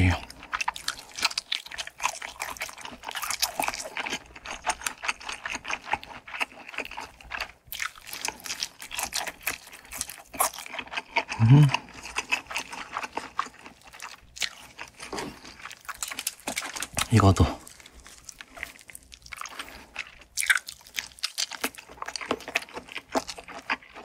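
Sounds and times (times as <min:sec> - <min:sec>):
chewing crunching: 0:00.0 - 0:24.0.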